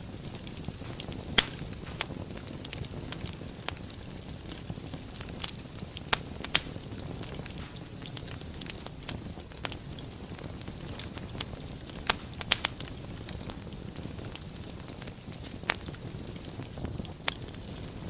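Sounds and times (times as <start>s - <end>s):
fire crackling: 0.0s - 18.0s
sharp fire pops: 0.0s - 18.0s
wood fire rumble and hiss: 0.0s - 18.0s.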